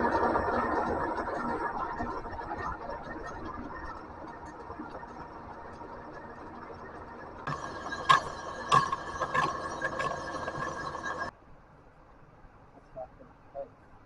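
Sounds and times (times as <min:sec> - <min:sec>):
machine tool motor whine: 0:00.0 - 0:11.3.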